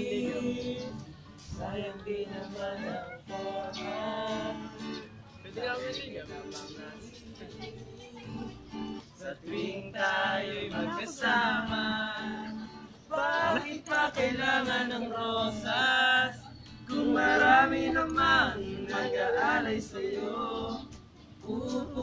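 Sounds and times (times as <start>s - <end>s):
song with sung vocals: 0.0s - 22.0s.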